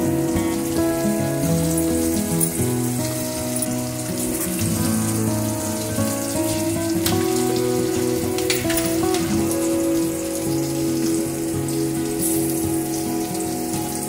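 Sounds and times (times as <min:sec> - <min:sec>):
instrumental music: 0:00.0 - 0:14.0
vegetables sizzling in a pan: 0:00.0 - 0:14.0
sharp crackles: 0:00.2 - 0:14.0.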